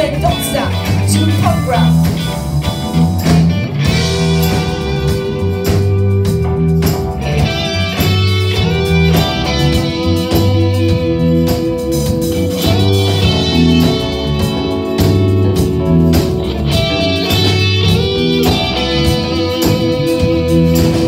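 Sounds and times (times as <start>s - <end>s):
long held guitar notes: 0.0s - 21.0s
rock band playing: 0.0s - 21.0s.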